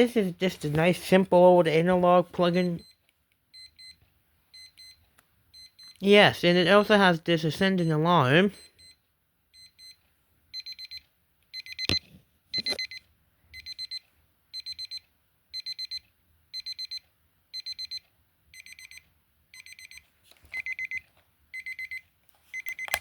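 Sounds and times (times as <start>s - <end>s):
alarm clock beeping: 1.8s - 20.0s, 20.6s - 23.0s.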